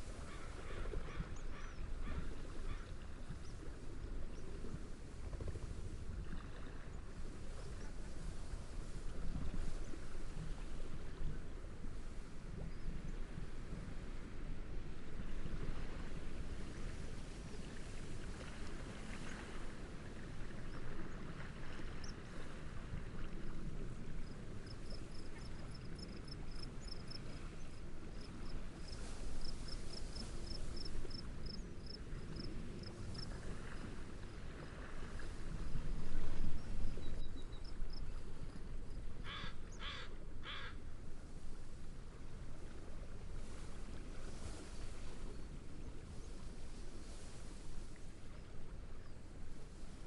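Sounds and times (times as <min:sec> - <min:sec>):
gentle waves: 0:00.0 - 0:50.0
steady wind: 0:00.0 - 0:50.0.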